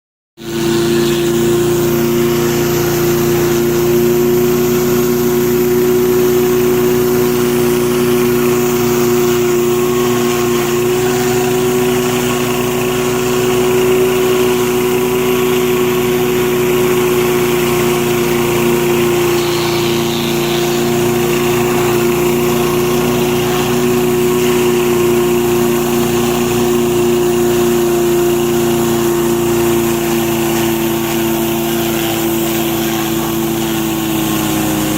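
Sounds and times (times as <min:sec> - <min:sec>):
pressure washer engine running: 0:00.4 - 0:34.9
water spraying onto concrete: 0:00.4 - 0:34.9.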